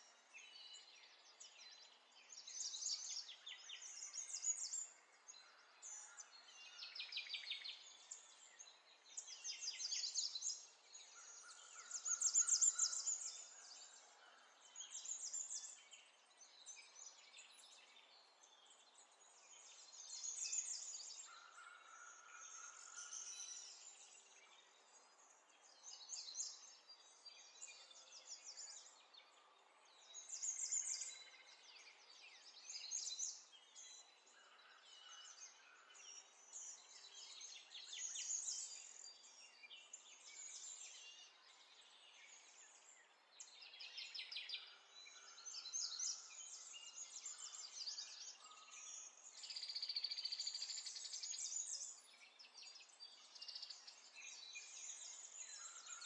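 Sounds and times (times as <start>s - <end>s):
faint bird chirps and trills: 0.0s - 56.0s.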